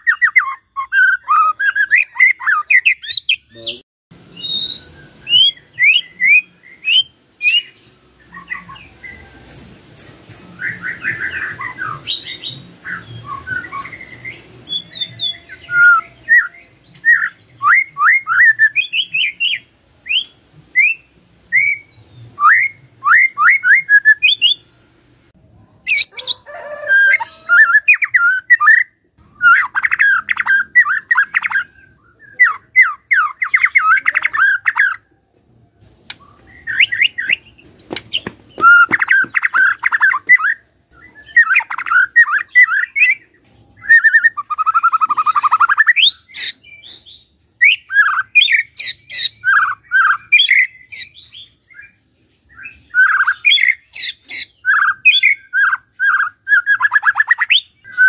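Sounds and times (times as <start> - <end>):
songbird singing trills: 0.0 - 25.2, 25.9 - 35.1, 36.1 - 52.0, 52.6 - 58.0.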